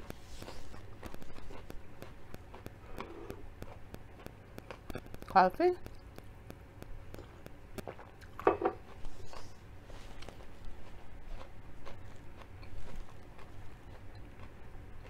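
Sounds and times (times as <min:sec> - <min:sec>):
soft chewing with mouth clicks: 0:00.0 - 0:15.0.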